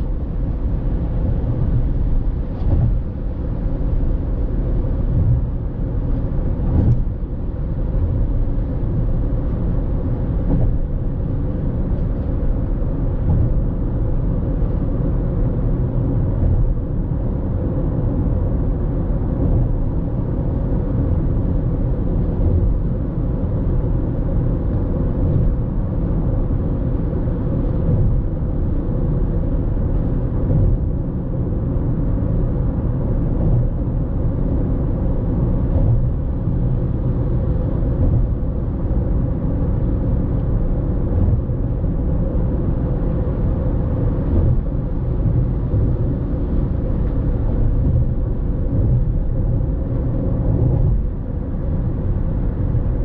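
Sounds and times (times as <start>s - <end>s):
car tyre and engine rumble: 0.0s - 53.0s.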